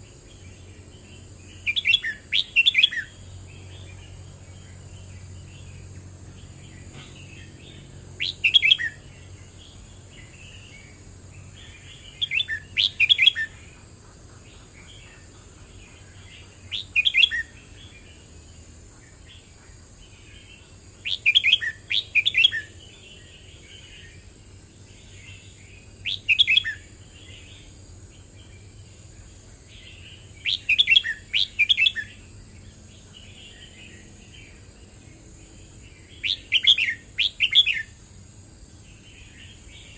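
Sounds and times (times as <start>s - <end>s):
soft bird twittering: 0.2s - 38.0s
bird warbling song phrases: 0.3s - 38.0s.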